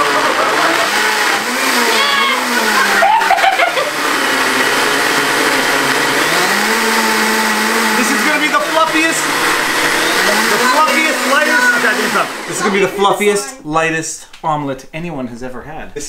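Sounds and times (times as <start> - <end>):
blender motor whirring: 0.0 - 13.3.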